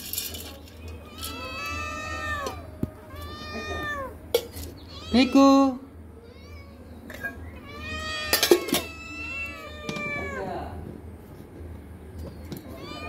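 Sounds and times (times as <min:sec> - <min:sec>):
cats meowing: 0:00.9 - 0:10.8, 0:12.4 - 0:13.0.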